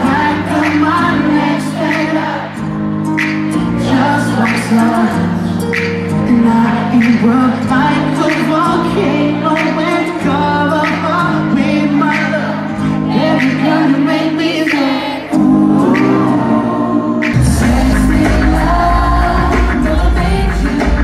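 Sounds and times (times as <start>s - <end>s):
live concert music: 0.0s - 21.0s
singer singing: 0.0s - 21.0s.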